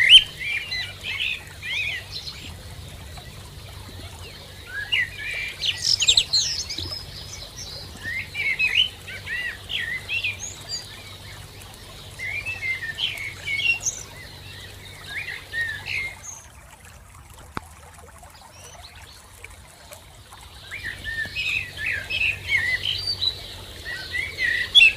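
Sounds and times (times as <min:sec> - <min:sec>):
small birds chirping and twittering: 0:00.0 - 0:16.6, 0:20.2 - 0:24.9.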